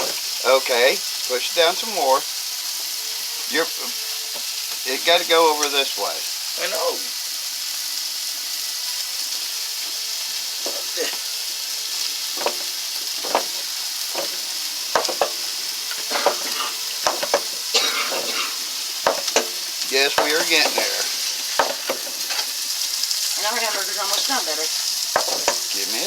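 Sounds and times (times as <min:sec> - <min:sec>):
hamburger sizzling in a pan: 0:00.0 - 0:26.0.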